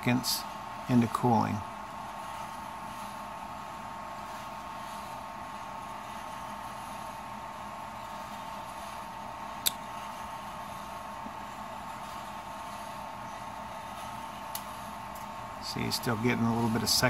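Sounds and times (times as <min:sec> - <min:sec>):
fan and motor hum: 0:00.0 - 0:17.0.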